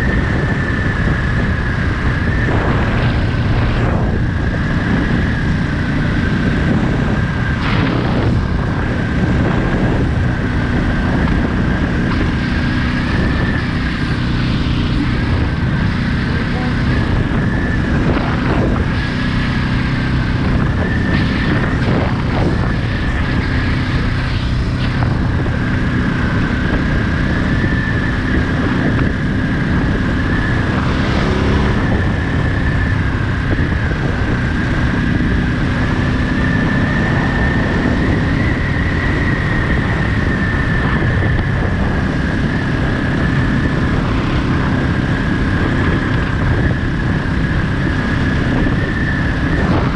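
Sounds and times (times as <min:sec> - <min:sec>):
high whine: 0:00.0 - 0:49.9
motorcycle engine running: 0:00.0 - 0:49.9.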